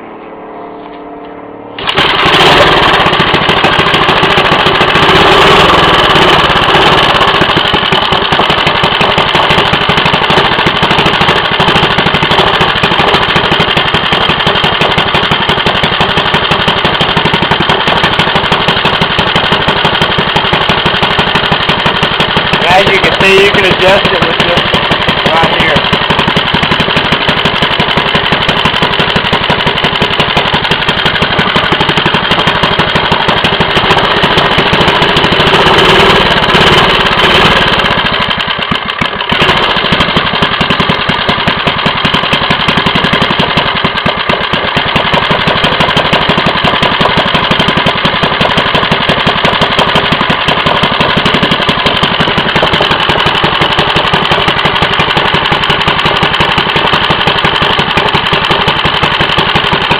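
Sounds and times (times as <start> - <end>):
small engine running steadily: 1.7 - 59.9.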